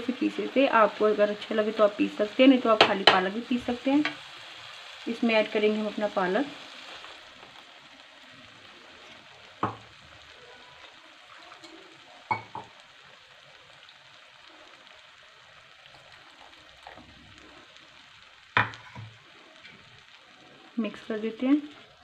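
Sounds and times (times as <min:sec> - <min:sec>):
food sizzling in pan: 0:00.0 - 0:22.0.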